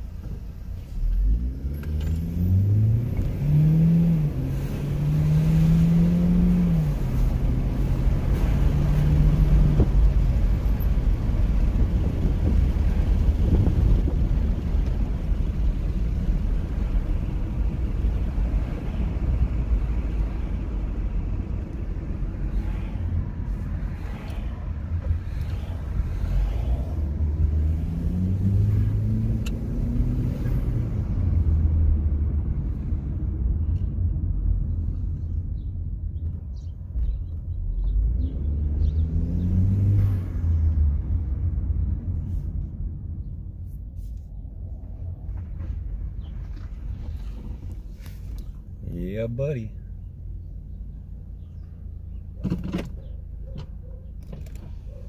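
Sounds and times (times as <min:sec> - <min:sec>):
road noise rumble: 0:00.0 - 0:55.0.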